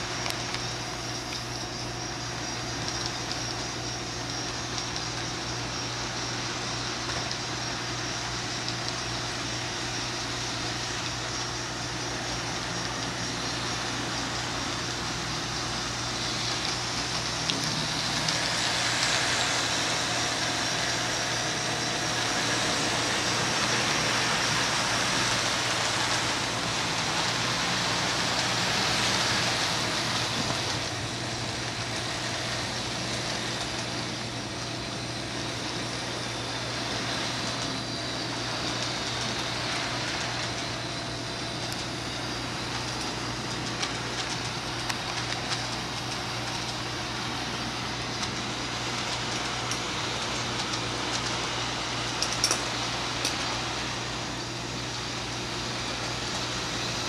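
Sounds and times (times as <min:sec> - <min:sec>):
model train cars rolling on track: 0:00.0 - 0:57.0.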